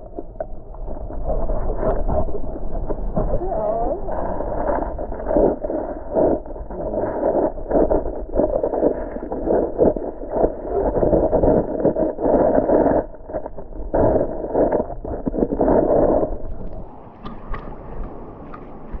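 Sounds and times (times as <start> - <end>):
muffled underwater water churning: 0.0 - 19.0.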